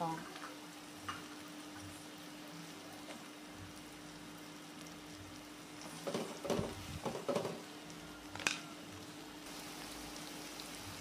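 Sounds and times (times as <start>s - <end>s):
chilies frying in oil: 0.0s - 11.0s.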